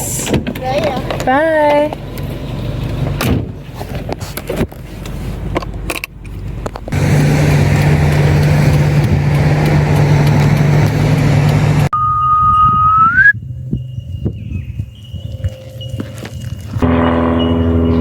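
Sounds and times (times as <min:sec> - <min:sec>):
engine and road drone: 0:00.0 - 0:14.0, 0:15.5 - 0:18.0.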